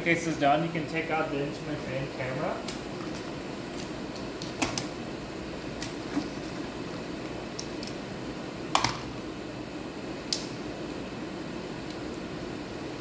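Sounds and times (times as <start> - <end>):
ventilation and equipment hum: 0.0 - 13.0.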